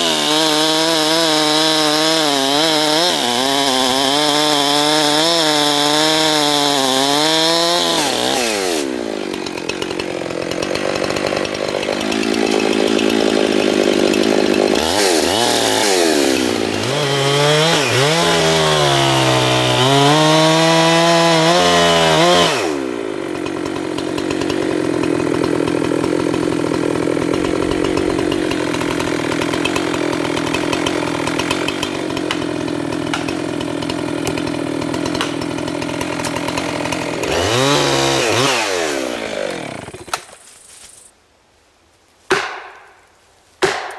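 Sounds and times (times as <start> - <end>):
two-stroke chainsaw revving and idling: 0.0 - 40.3.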